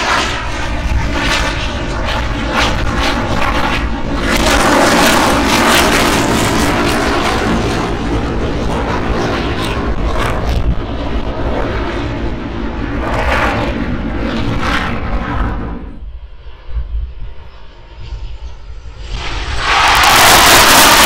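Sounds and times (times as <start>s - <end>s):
fighter jets roaring by: 0.0s - 21.0s.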